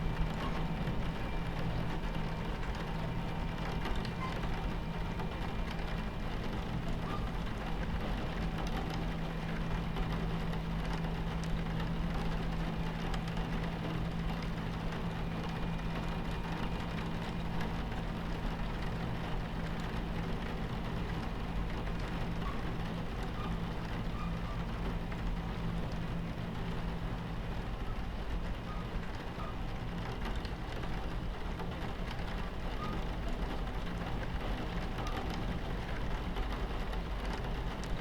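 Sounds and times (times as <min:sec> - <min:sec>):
rain on window: 0:00.0 - 0:38.0
train rumbling: 0:00.0 - 0:38.0.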